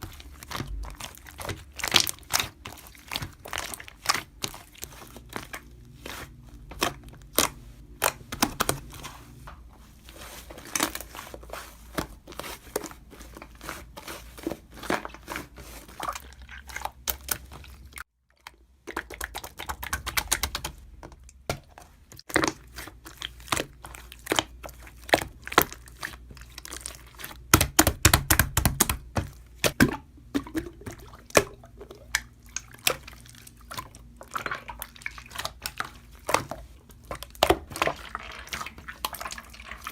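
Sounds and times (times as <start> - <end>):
crunching and crinkling: 0.0 - 19.0, 19.8 - 39.9.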